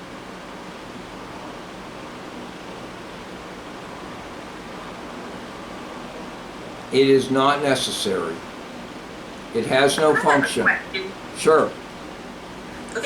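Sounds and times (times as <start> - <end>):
room background hiss: 0.0 - 13.0.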